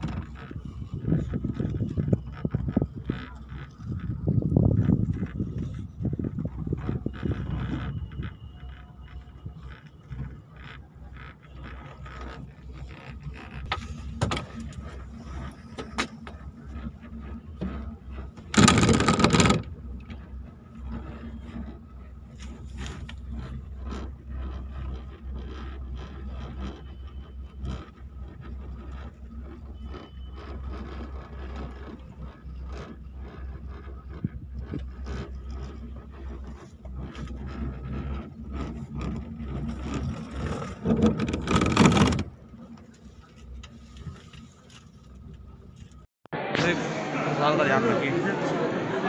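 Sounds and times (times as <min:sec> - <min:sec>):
cable car low rumble: 0:00.0 - 0:46.1
clicks and rattles: 0:00.0 - 0:46.1.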